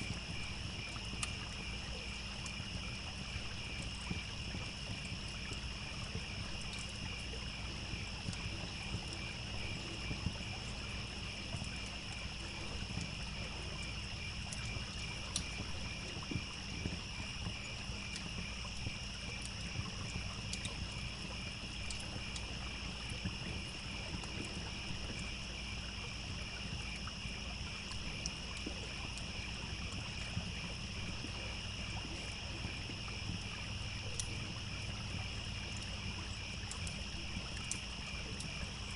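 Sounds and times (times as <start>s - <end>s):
campfire crackling: 0.0s - 38.9s
crickets chirping: 0.0s - 38.9s
trickling stream: 0.0s - 38.9s.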